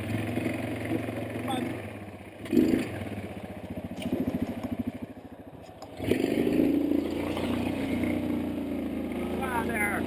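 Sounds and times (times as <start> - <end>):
vehicle engine revving: 0.0 - 10.0.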